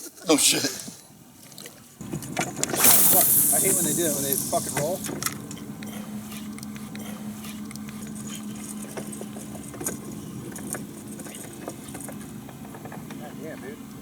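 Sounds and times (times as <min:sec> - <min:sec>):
engine hum: 0:00.3 - 0:14.0.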